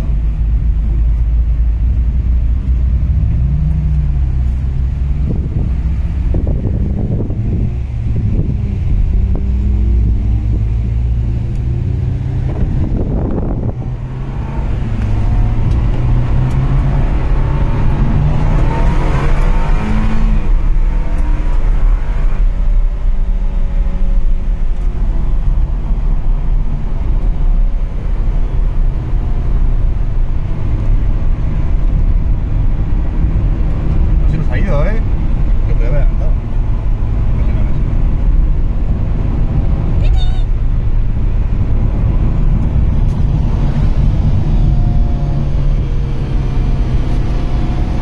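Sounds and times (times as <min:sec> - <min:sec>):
car engine accelerating: 0:00.0 - 0:48.0
wind and road noise: 0:00.0 - 0:48.0.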